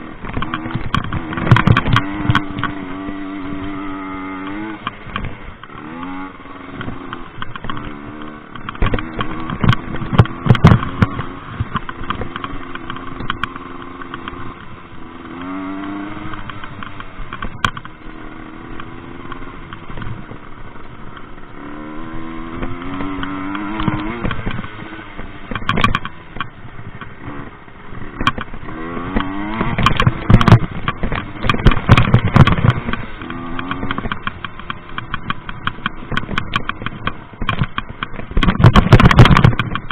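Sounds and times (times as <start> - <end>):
bike knocking and clattering: 0.0 - 39.9
moped engine revving: 0.0 - 39.9.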